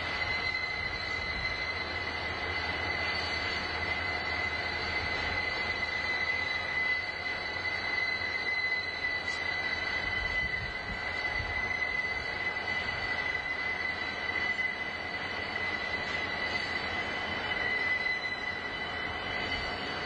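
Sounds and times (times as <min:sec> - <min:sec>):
train rumble: 0:00.0 - 0:20.0
train wheels squealing: 0:00.0 - 0:20.0.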